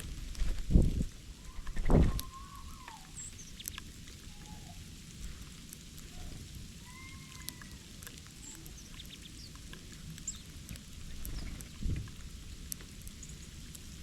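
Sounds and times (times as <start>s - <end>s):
small birds chirping: 1.3s - 14.0s
light ticks: 1.7s - 14.0s.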